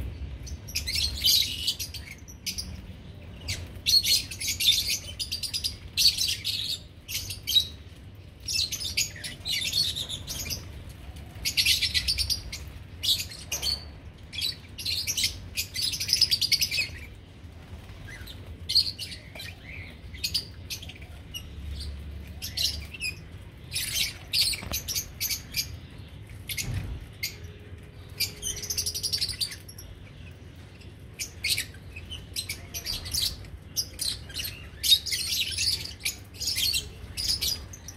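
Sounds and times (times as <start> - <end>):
lovebirds chirping: 0.0 - 37.9.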